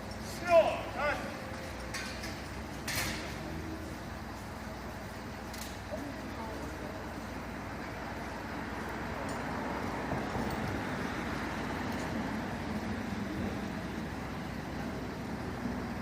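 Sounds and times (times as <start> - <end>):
large vehicle engine humming: 0.0 - 16.0
outdoor background noise: 0.0 - 16.0.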